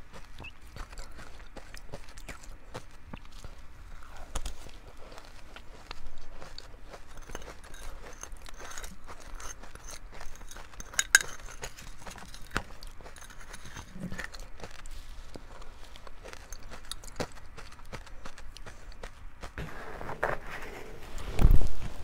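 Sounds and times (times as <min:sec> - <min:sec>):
crunchy ice chewing: 0:00.0 - 0:20.6.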